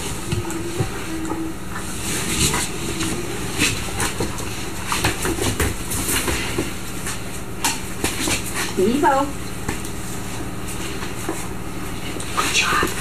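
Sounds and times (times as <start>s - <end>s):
low hum: 0.0s - 13.0s
puppies clicking and scuffing: 0.0s - 13.0s.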